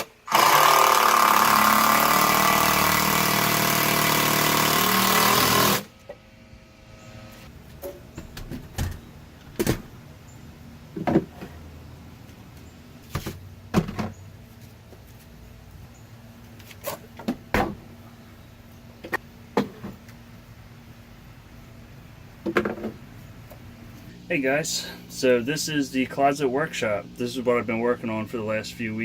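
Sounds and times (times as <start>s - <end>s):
faint steady hum: 5.7s - 29.0s.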